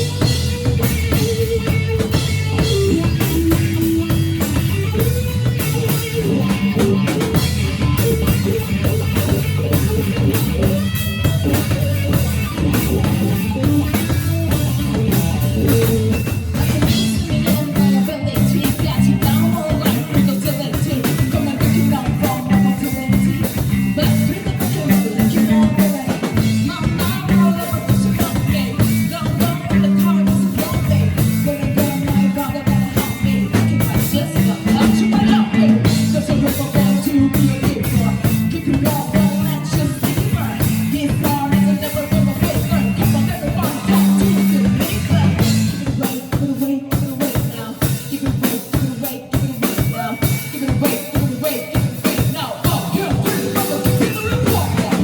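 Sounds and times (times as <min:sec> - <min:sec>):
low bass line: 0:00.0 - 0:20.3, 0:21.2 - 0:45.8
drum kit: 0:00.0 - 0:55.0
live band playing: 0:00.0 - 0:55.0.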